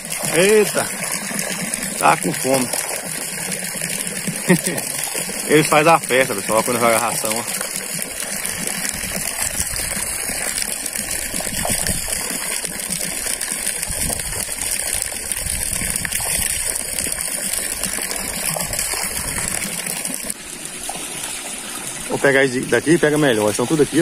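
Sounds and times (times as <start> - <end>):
water gushing into tank: 0.0 - 24.0.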